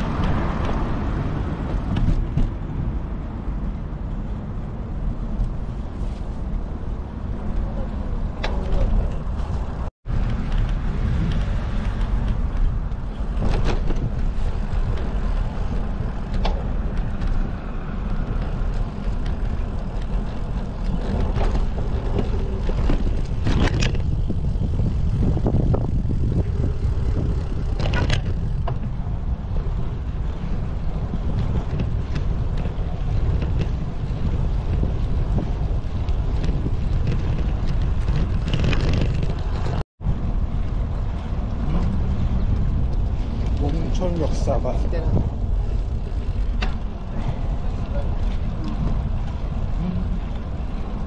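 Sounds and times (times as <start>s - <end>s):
bicycle knocks and rattles: 0.0s - 3.1s, 7.2s - 51.0s
wind buffeting microphone: 0.0s - 51.0s.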